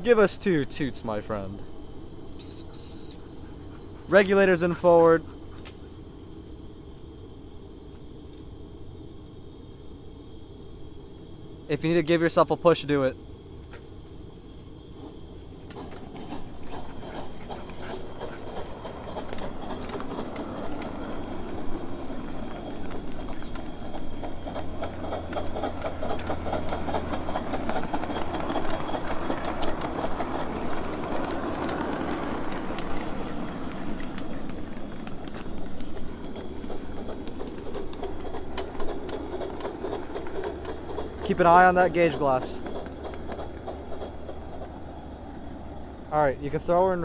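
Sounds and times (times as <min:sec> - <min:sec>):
wheels clattering on rails: 0:00.0 - 0:06.5, 0:14.9 - 0:47.0
steam locomotive running: 0:00.0 - 0:47.0.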